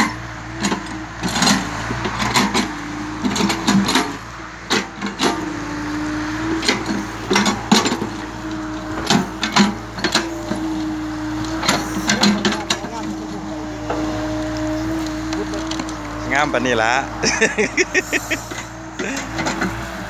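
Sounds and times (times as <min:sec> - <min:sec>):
metal clanks and knocks: 0:00.0 - 0:05.6, 0:06.6 - 0:10.8, 0:11.4 - 0:16.3, 0:17.3 - 0:19.9
excavator diesel engine running: 0:00.0 - 0:20.0.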